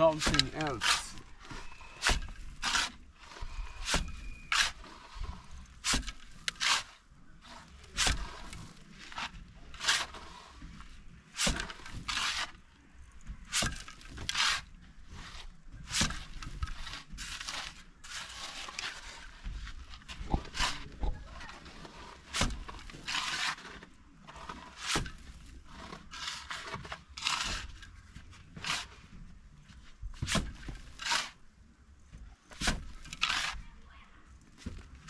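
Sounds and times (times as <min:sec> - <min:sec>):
trowel scraping wet plaster: 0:00.0 - 0:12.7, 0:13.5 - 0:27.8, 0:30.2 - 0:31.4, 0:32.5 - 0:33.6.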